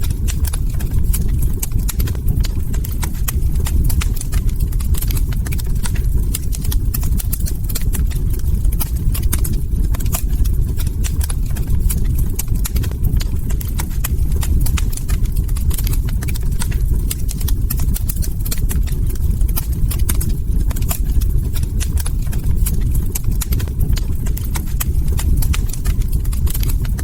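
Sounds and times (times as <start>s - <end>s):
log fire crackling: 0.0s - 27.0s.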